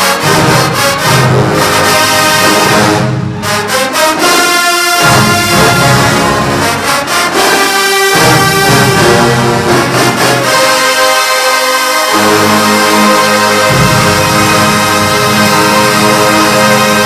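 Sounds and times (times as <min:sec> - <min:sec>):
marching band brass playing: 0:00.0 - 0:17.0
percussion hits: 0:00.0 - 0:17.0.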